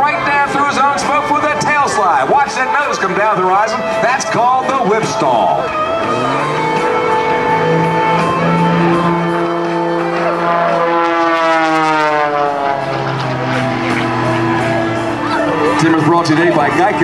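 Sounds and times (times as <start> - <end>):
music over loudspeakers: 0.0 - 10.8, 12.9 - 17.0
propeller plane engine passing: 0.0 - 17.0.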